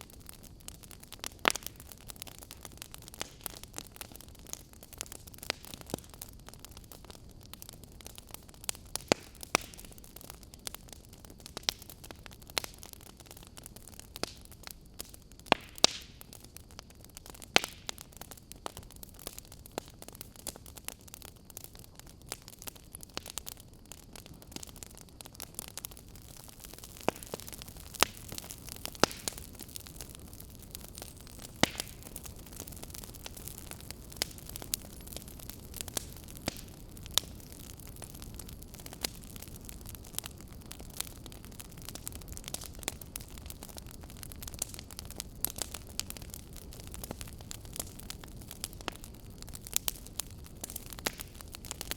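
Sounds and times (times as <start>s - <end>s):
fire hiss: 0.0s - 51.9s
wood fire crackling: 0.0s - 51.9s.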